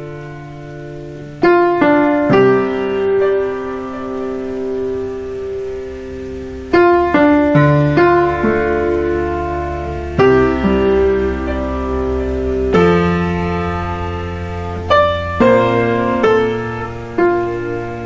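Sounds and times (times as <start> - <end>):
piano notes: 0.0 - 18.0.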